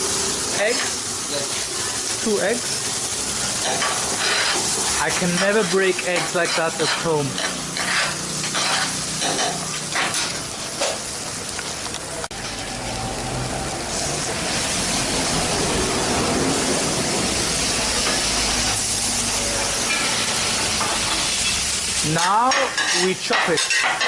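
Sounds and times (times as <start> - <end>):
eggs sizzling on a griddle: 0.0 - 24.0.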